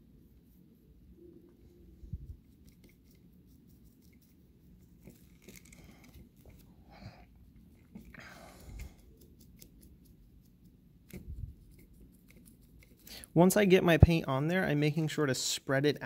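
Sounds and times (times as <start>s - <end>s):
paintbrush scratchy dabbing: 0.0s - 14.2s.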